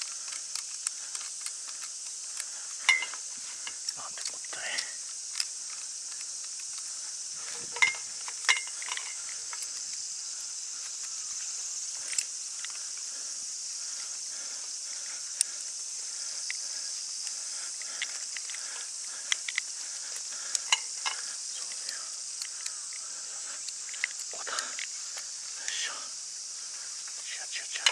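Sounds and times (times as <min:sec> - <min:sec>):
high-pitched insect chorus: 0:00.0 - 0:27.9.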